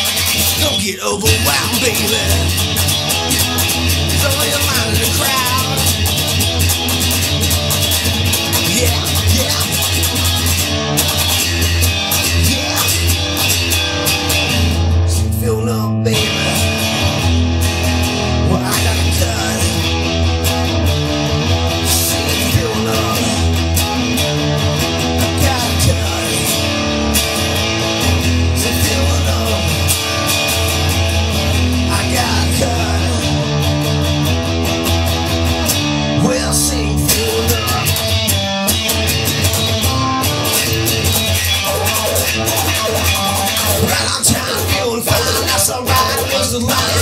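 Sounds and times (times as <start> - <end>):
guitar music: 0.0 - 47.0.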